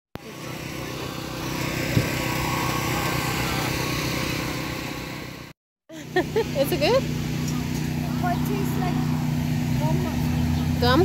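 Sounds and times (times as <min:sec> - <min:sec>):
small engine running: 0:00.2 - 0:11.0.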